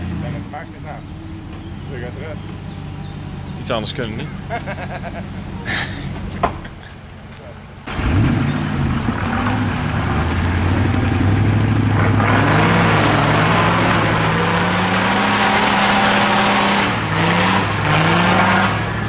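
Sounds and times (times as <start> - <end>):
truck engine revving: 0.0 - 7.0, 7.8 - 19.0.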